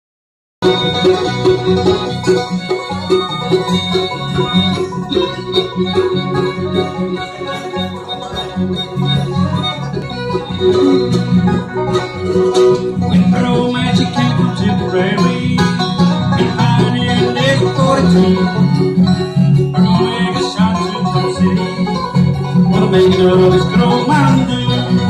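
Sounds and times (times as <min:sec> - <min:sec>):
acoustic bluegrass band playing: 0:00.6 - 0:25.0.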